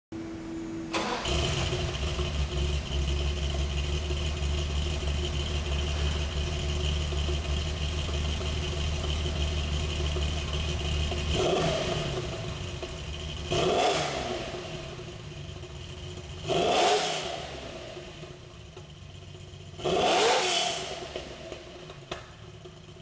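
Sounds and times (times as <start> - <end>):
car engine idling deep rumble: 1.3 - 20.0, 20.8 - 23.0.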